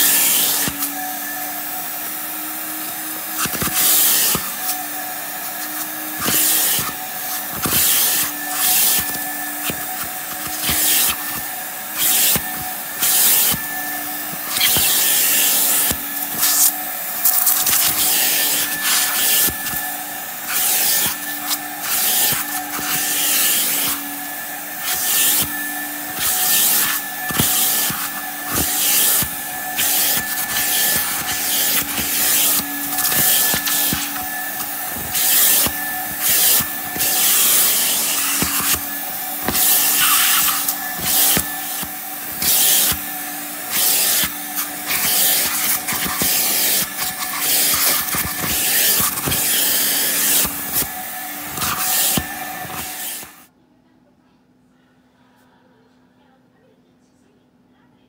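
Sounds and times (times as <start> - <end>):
vacuum motor hum: 0.0 - 53.5.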